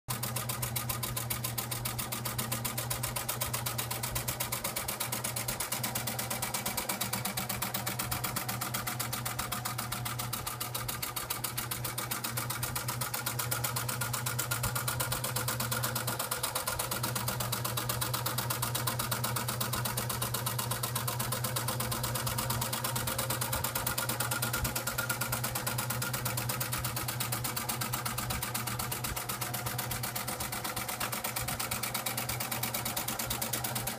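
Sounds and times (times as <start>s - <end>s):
sewing machine clattering: 0.1s - 33.9s
sewing machine motor hum: 0.1s - 33.9s.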